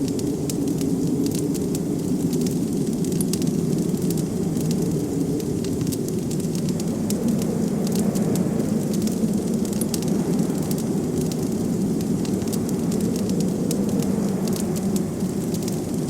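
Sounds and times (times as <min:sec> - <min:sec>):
blizzard wind rushing: 0:00.0 - 0:16.0
wood fire crackling and popping: 0:00.0 - 0:16.0.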